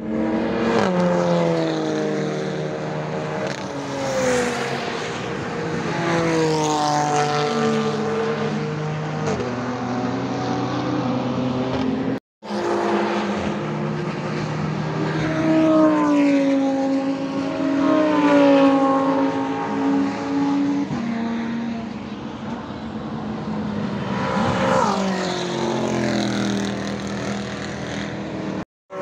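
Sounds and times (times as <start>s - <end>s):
sports cars driving past: 0.1s - 29.0s.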